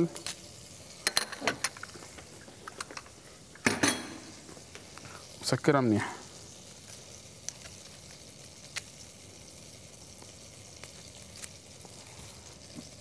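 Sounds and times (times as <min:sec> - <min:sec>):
butter sizzling in a pot: 0:00.0 - 0:13.0.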